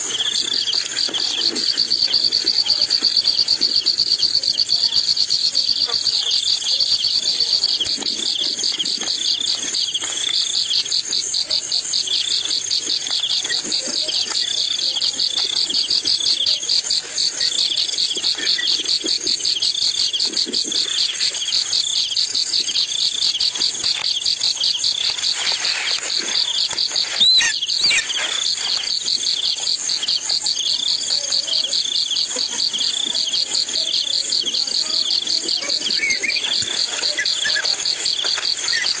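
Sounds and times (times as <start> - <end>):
insects chirping: 0.0 - 39.0.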